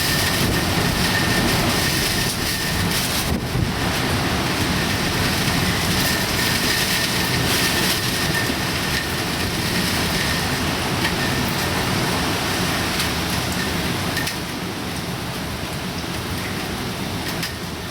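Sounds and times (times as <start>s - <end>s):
heavy rain and wind rushing: 0.0s - 17.9s.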